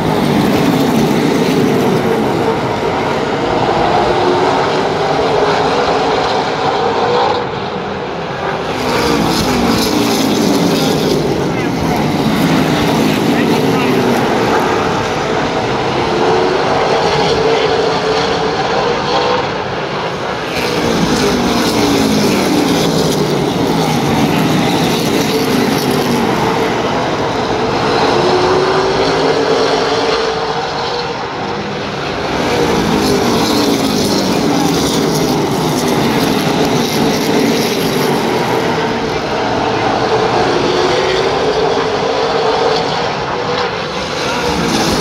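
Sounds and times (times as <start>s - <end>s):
race car engines at full throttle: 0.0s - 45.0s.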